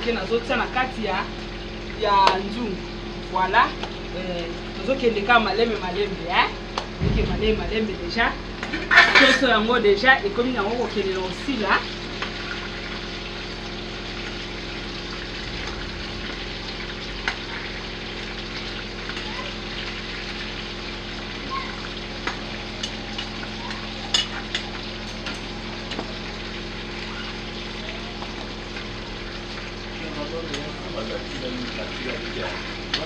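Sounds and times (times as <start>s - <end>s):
chicken frying in hot oil: 0.0s - 7.0s, 8.2s - 33.0s.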